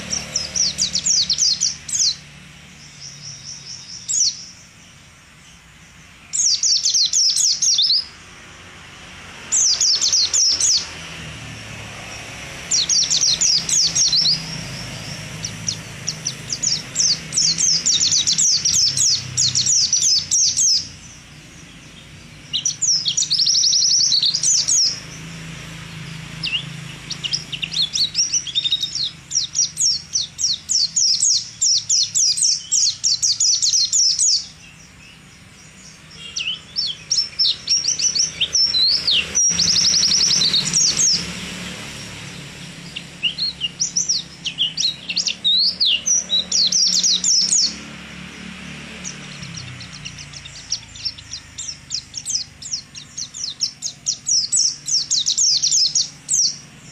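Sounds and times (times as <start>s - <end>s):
bird twittering: 0.0s - 8.5s, 9.4s - 11.0s, 12.1s - 47.9s, 48.9s - 56.9s.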